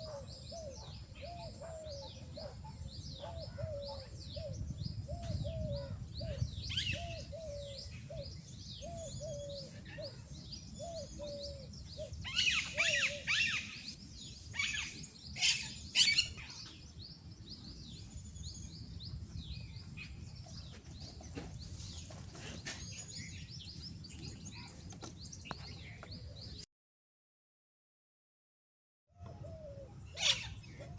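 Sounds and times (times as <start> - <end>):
birds chirping and singing: 0.0 - 26.6, 29.2 - 30.9.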